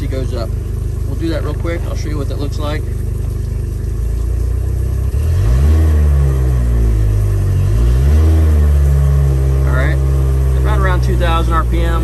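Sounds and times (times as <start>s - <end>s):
outboard motor revving: 0.0s - 12.0s.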